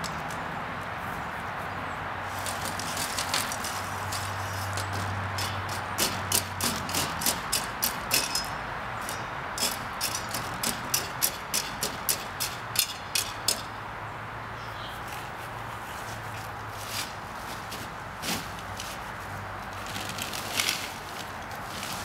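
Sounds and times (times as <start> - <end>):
rake scraping dirt: 2.2 - 13.4, 15.1 - 22.0.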